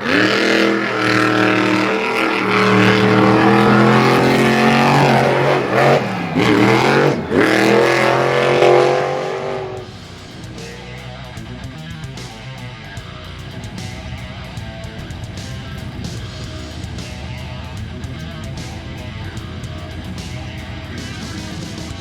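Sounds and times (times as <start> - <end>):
racing engine at high revs: 0.0 - 22.0.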